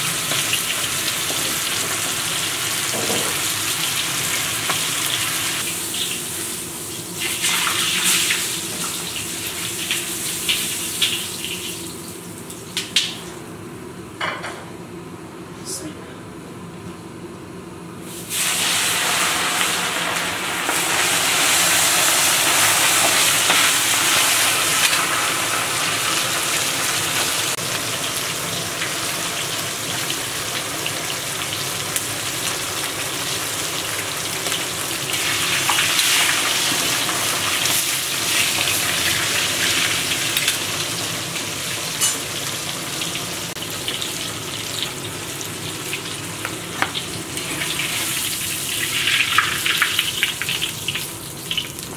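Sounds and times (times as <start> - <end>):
meat sizzling in hot oil: 0.0 - 13.2, 18.0 - 51.9.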